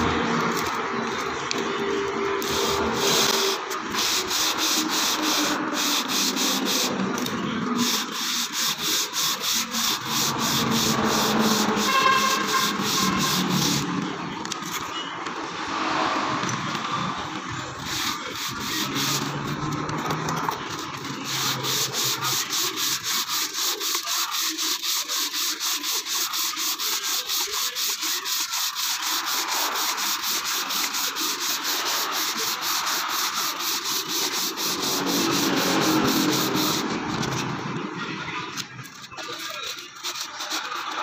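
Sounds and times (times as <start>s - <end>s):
sandpaper rubbing on metal: 0.2s - 14.0s, 17.6s - 37.6s, 38.9s - 41.0s.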